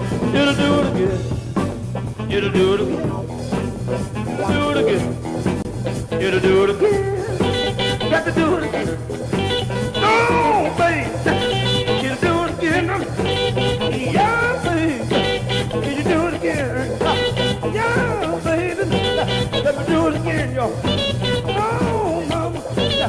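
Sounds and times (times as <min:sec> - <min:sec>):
electric blues band playing: 0:00.0 - 0:23.0
guitar lead line bending pitch: 0:00.3 - 0:23.0.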